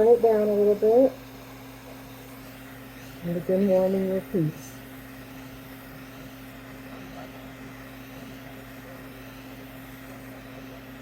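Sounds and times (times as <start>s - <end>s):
fume fan humming: 0.0s - 11.0s
soldering torch flame hiss: 0.0s - 11.0s.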